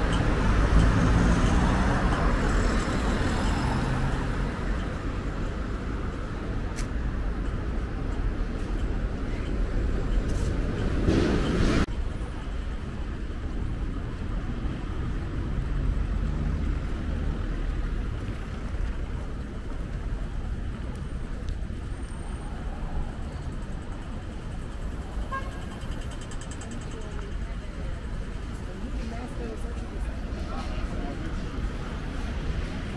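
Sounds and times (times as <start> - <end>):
low rumble of traffic: 0.0 - 32.9.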